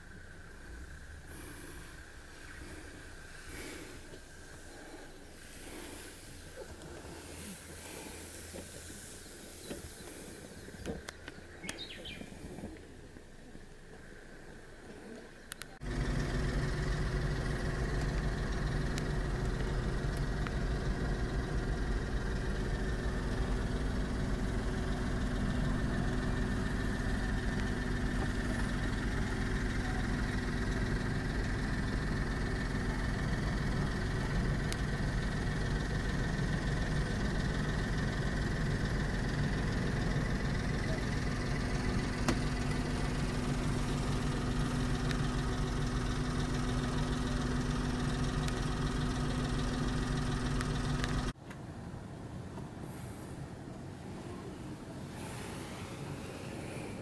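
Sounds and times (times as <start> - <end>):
van engine idling: 0.0 - 51.4, 52.8 - 57.0.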